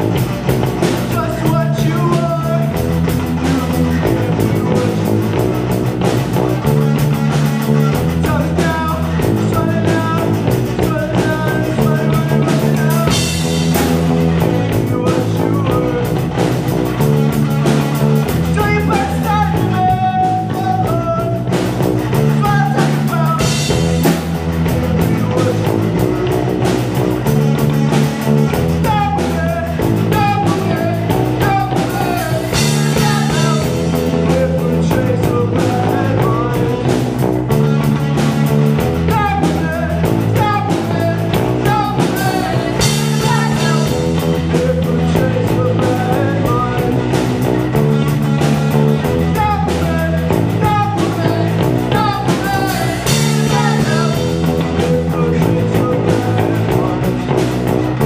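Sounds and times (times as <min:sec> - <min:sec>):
low bass figure: 0:00.0 - 0:58.0
rock band playing: 0:00.0 - 0:58.0.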